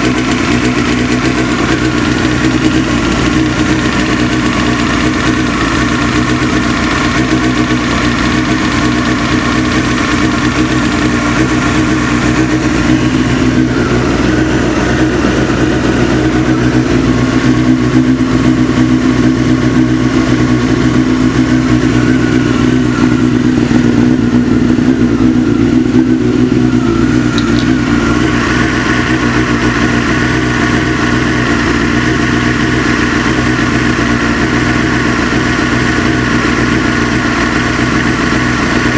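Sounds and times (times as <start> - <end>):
engine idling: 0.0 - 38.9
engine knock: 0.0 - 38.9.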